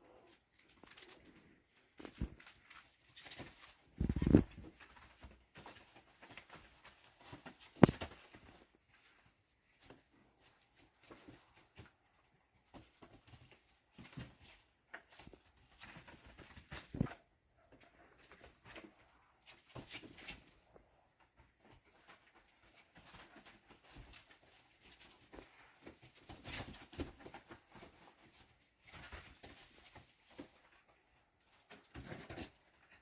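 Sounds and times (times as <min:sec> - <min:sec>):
kittens scuffling and pattering: 0:00.0 - 0:33.0.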